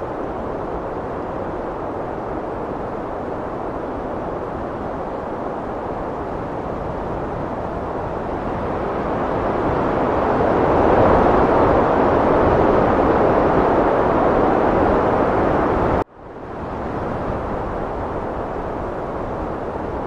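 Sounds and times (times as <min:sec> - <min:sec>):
heavy wind rushing: 0:00.0 - 0:20.0.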